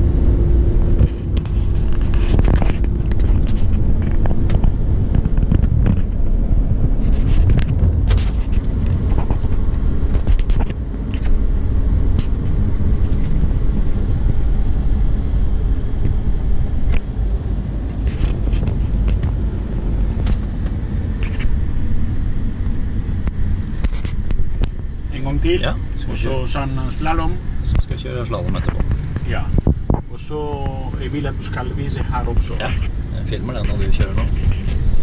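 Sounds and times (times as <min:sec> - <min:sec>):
car engine rumbling low: 0:00.0 - 0:35.0.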